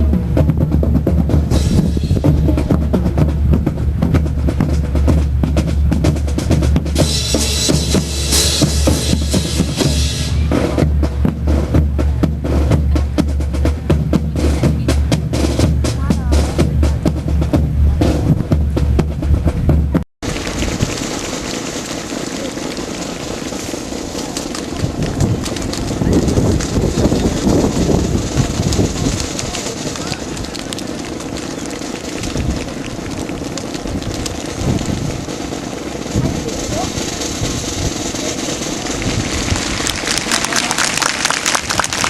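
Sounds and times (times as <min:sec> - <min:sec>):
drum-led music: 0:00.0 - 0:42.0
steady noisy background: 0:00.0 - 0:42.0.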